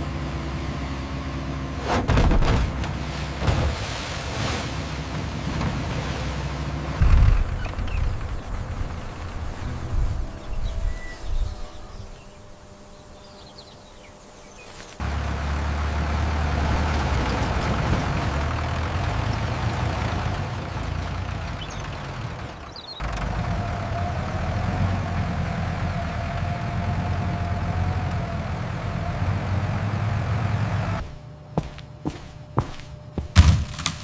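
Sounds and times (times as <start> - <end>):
large engine rumbling: 0.0 - 12.6, 15.0 - 33.4.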